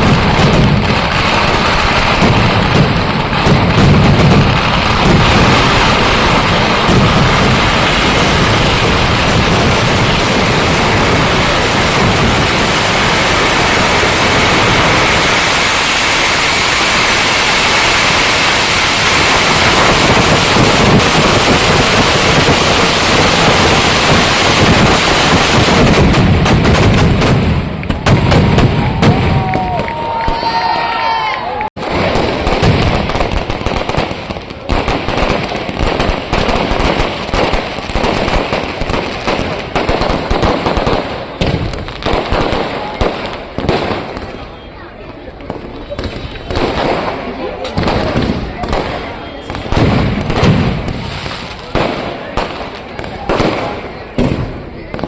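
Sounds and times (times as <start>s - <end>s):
fireworks barrage: 0.0s - 55.0s.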